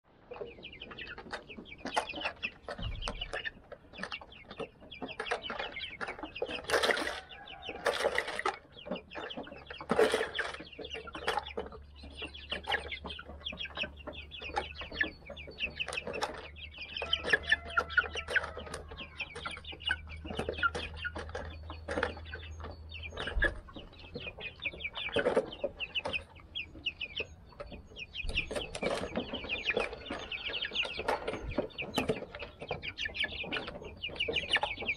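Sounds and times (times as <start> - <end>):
chickens peeping and clucking: 0.1 - 34.9.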